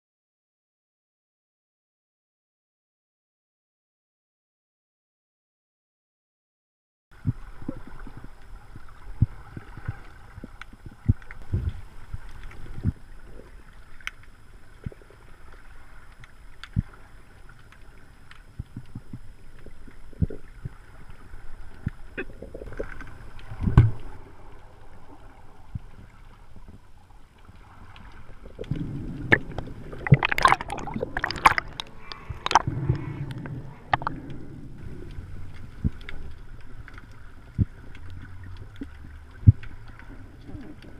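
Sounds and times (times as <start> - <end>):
underwater water rushing: 7.2 - 40.9
water bubbling: 7.2 - 40.9.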